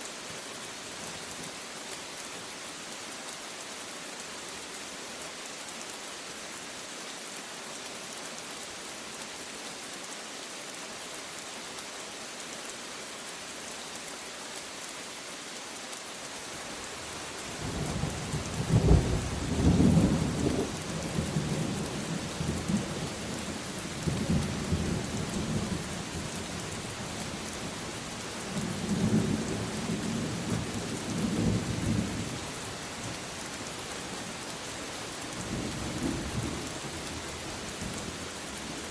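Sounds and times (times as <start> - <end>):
steady rain hissing: 0.0 - 38.9.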